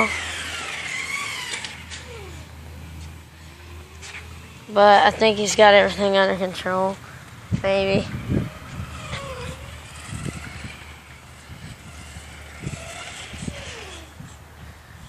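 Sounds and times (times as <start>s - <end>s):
toy car motor whining: 0.0s - 5.6s, 8.0s - 14.8s.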